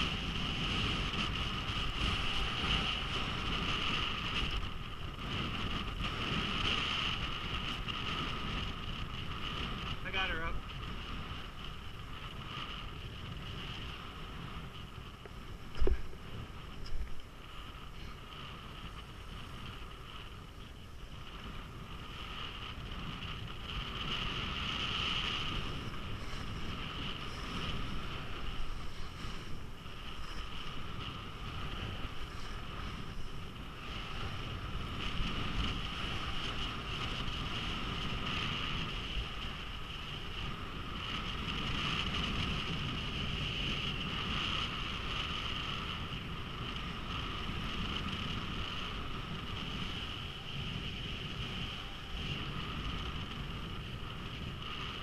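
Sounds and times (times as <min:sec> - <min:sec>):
skis scraping over snow: 0:00.0 - 0:55.0
wind on microphone: 0:00.0 - 0:55.0.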